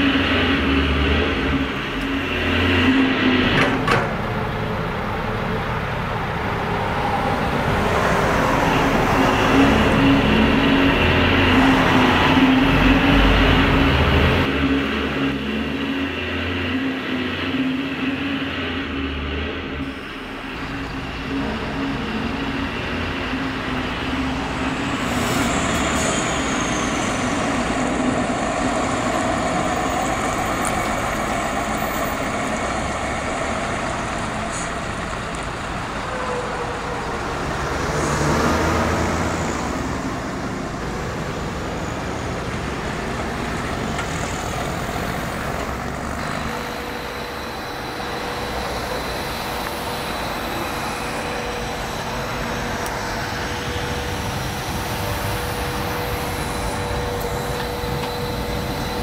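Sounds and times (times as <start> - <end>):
diesel reach stacker running: 0.0 - 59.0.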